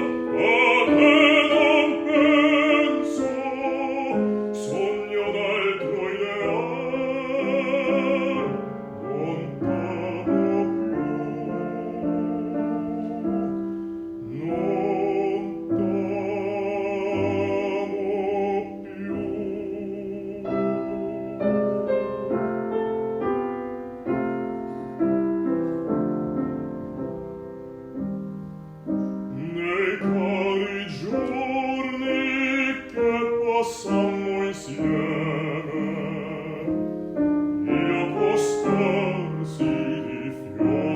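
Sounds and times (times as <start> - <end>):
bass singing operatically: 0.0 - 23.2, 29.2 - 40.9
piano accompaniment: 0.0 - 40.9.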